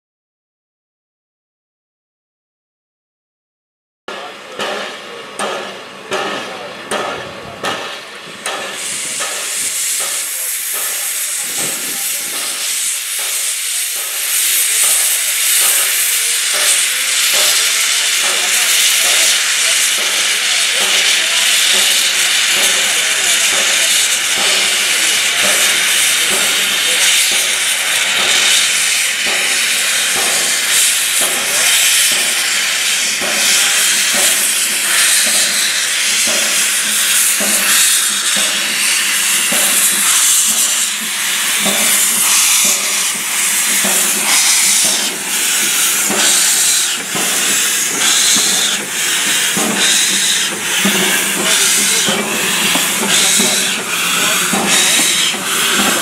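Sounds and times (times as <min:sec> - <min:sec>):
steam hissing from cylinders: 0:04.1 - 0:56.0
steam locomotive chuffing: 0:04.1 - 0:56.0.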